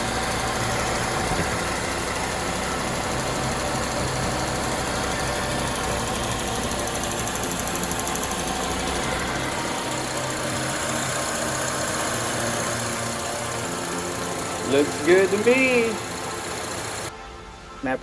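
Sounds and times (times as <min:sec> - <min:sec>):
car engine idling: 0:00.0 - 0:17.1.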